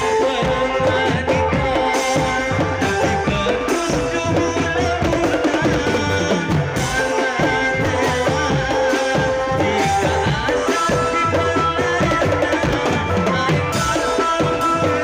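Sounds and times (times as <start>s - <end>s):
drum and percussion beat: 0.0s - 15.0s.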